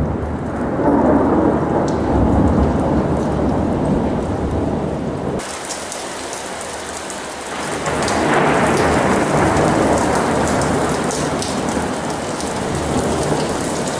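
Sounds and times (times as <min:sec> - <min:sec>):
heavy rain: 0:00.0 - 0:13.9
thunder rumbling: 0:00.0 - 0:13.9.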